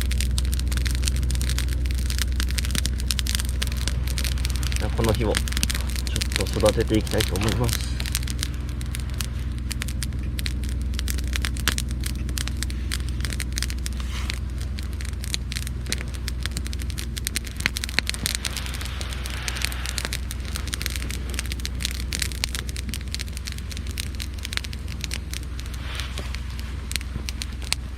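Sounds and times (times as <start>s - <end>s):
campfire crackling and popping: 0.0s - 27.9s
low rumble of fire: 0.0s - 27.9s.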